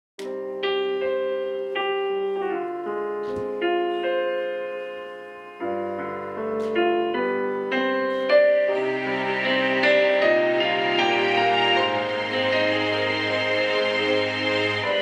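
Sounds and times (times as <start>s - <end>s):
gospel piano chords: 0.2s - 15.0s.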